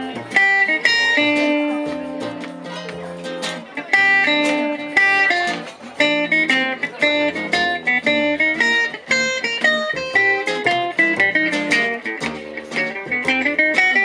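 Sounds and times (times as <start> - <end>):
gypsy jazz band playing: 0.0 - 14.0
quick plucked guitar notes: 0.0 - 14.0.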